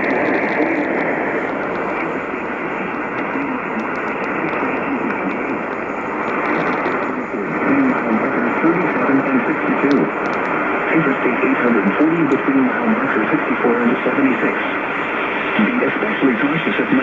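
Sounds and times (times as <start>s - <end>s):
faint automated warning voice: 0.0s - 10.2s, 10.8s - 14.8s, 15.6s - 17.0s
radio static hiss: 0.0s - 17.0s.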